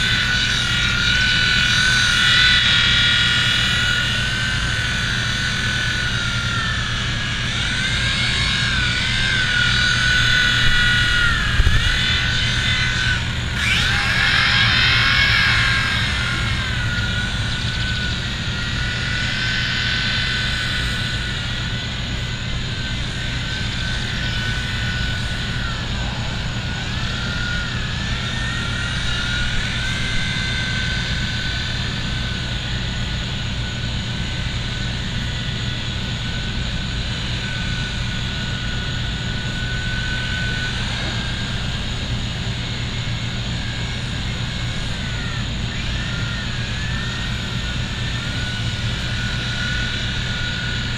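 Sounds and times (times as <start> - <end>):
rc helicopter motors whining: 0.0 - 50.9.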